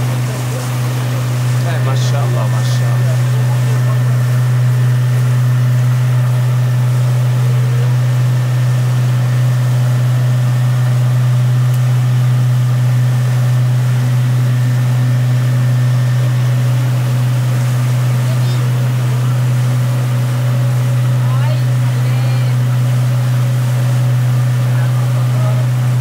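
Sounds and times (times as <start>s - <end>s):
motorboat engine drone: 0.0s - 26.0s.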